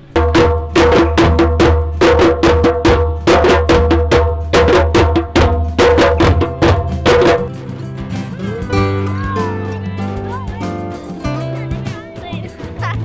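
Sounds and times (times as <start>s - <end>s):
group playing drums and percussion: 0.0s - 13.0s.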